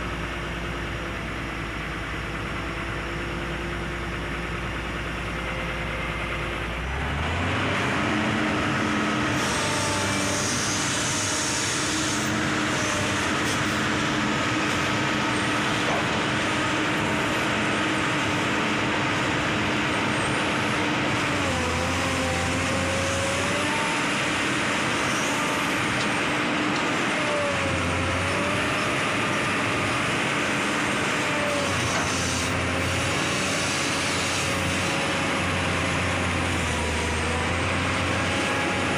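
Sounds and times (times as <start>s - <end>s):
excavator diesel engine revving: 0.0s - 38.9s
hydraulic whine: 5.0s - 38.9s.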